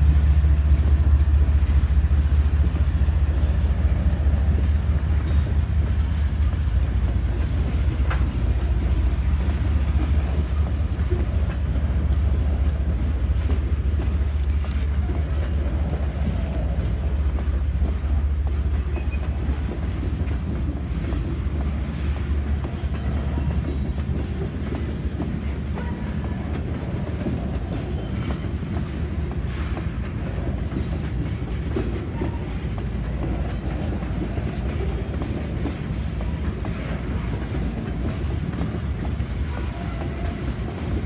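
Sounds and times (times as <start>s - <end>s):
diesel locomotive rumble: 0.0s - 41.0s
train cars moving: 0.0s - 41.0s.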